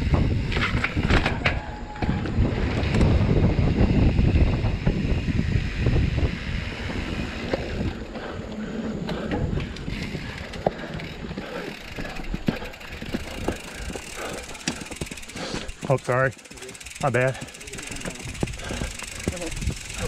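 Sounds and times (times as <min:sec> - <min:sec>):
wind buffeting microphone: 0:00.0 - 0:15.9, 0:16.9 - 0:20.0
bike clicks and rattles: 0:00.0 - 0:20.0
bike tyre noise: 0:00.0 - 0:20.0.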